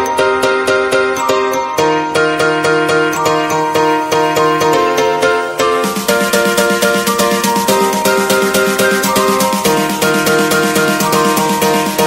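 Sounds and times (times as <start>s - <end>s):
background music with quick beat: 0.0s - 12.0s.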